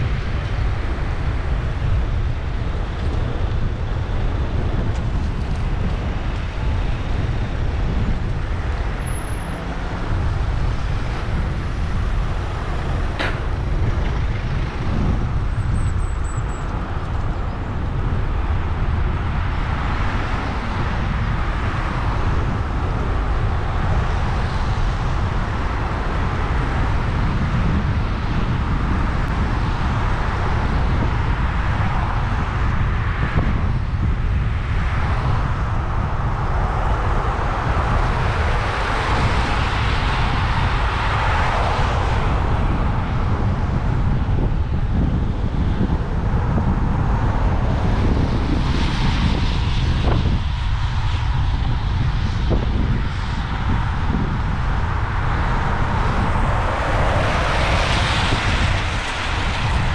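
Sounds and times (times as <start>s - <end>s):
cars passing on wet road: 0.0s - 50.4s, 52.0s - 59.9s
wind rumble on microphone: 0.0s - 59.9s.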